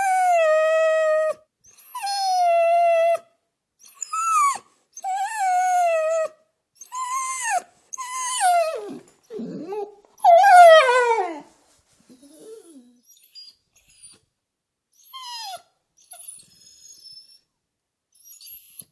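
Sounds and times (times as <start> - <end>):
dog whimpering: 0.0 - 11.5, 12.1 - 14.2, 15.0 - 17.4, 18.2 - 18.9.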